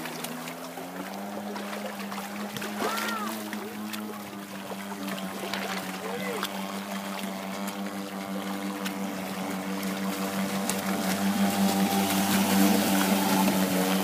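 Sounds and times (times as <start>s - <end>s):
model speedboat engine running: 0.0s - 14.0s.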